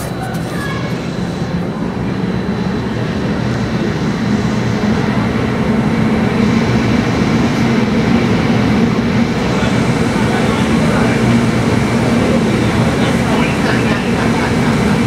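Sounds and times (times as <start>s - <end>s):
hurricane wind blowing hard: 0.0s - 15.0s.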